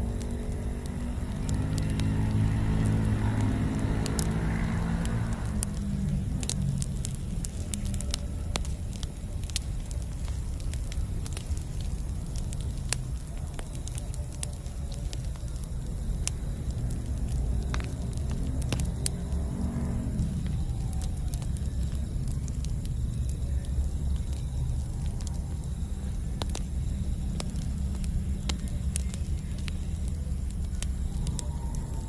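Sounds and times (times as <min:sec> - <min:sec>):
campfire crackling and popping: 0:00.0 - 0:32.0
low fire rumble: 0:00.0 - 0:32.0.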